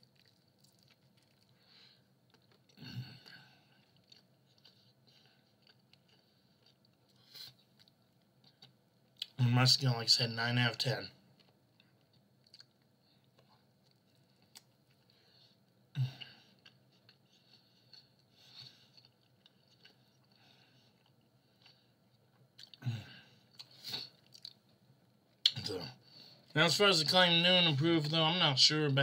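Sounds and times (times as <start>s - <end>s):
person chewing: 0.0s - 9.4s, 11.3s - 24.7s, 25.3s - 26.5s.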